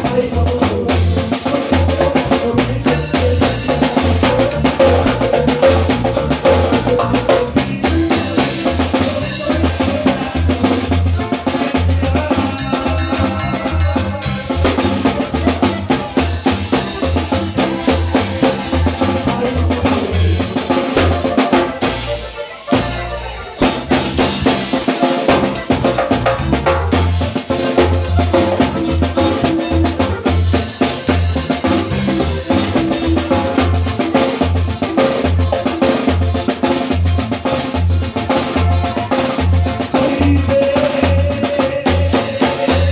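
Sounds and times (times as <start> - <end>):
drum kit: 0.0 - 42.9
fast band music: 0.0 - 42.9
pulsing bass line: 0.0 - 42.9.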